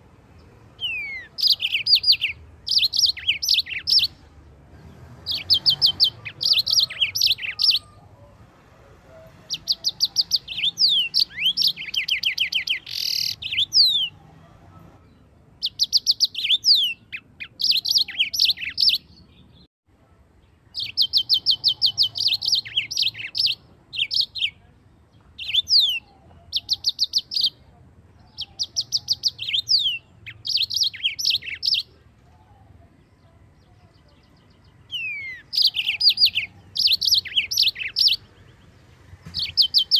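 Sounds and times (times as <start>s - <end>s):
canary singing: 0.0s - 19.7s, 20.6s - 39.9s.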